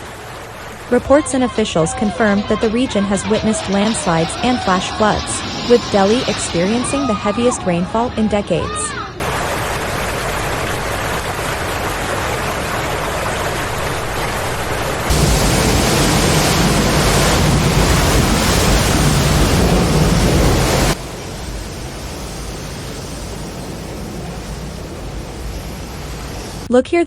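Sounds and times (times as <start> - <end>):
heavy rain: 0.0 - 7.8, 9.2 - 26.7
floodwater rushing: 0.0 - 26.7.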